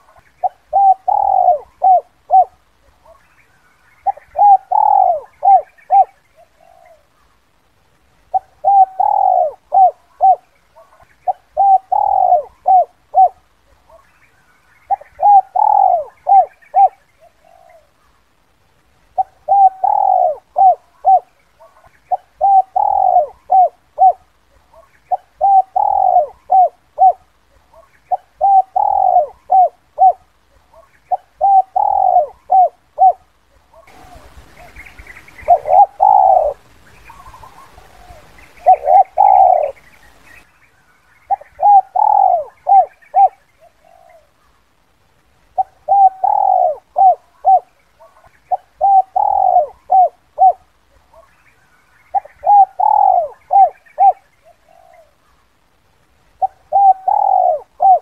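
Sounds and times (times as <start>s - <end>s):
dove cooing: 0.0s - 7.2s, 8.2s - 14.2s, 14.8s - 18.2s, 19.1s - 40.4s, 41.2s - 44.5s, 45.5s - 51.4s, 52.1s - 55.4s, 56.3s - 58.0s
light hiss: 0.0s - 58.0s.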